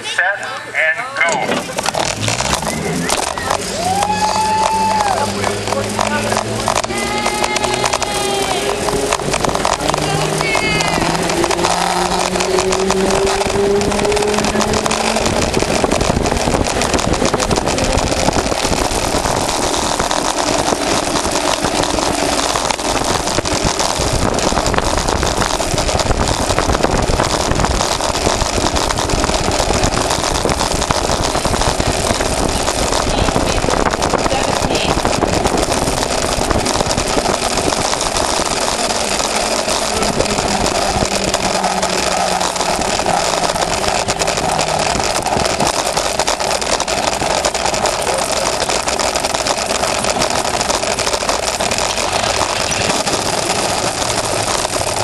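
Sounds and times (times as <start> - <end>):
cart wheels rolling on asphalt: 0.0 - 55.0
wind noise: 1.5 - 55.0.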